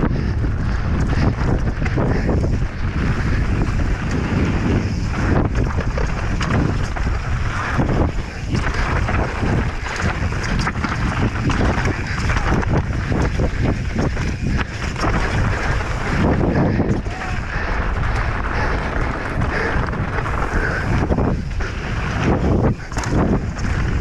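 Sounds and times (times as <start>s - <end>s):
bike clattering on rough ground: 0.0s - 24.0s
wind buffeting microphone: 0.0s - 24.0s.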